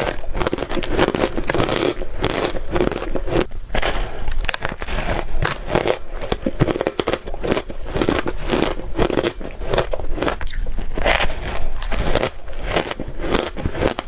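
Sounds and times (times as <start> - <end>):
ice crunching being chewed: 0.0 - 14.0.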